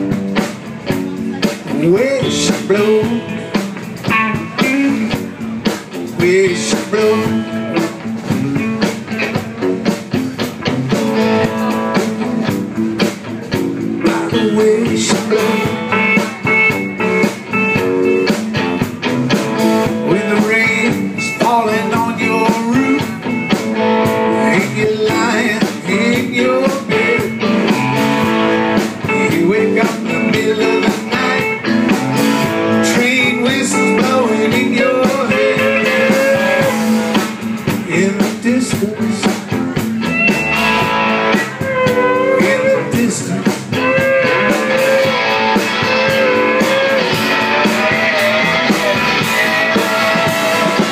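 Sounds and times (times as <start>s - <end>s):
blues band playing: 0.0s - 50.9s
lead guitar with bent notes: 0.0s - 50.9s.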